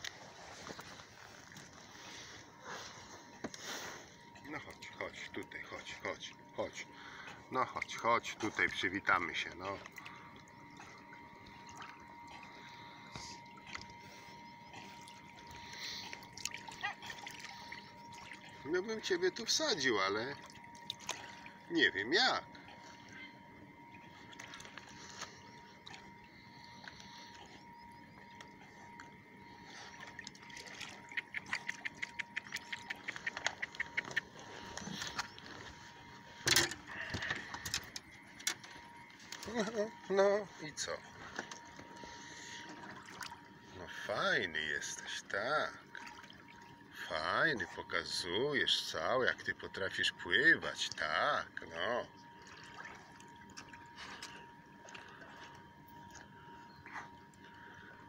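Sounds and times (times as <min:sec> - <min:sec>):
water lapping and trickling: 0:00.0 - 0:58.0.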